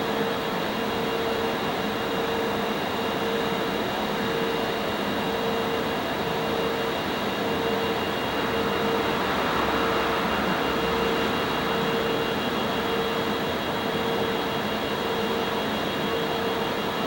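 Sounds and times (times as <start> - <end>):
electric locomotive hum and whine: 0.0 - 17.0.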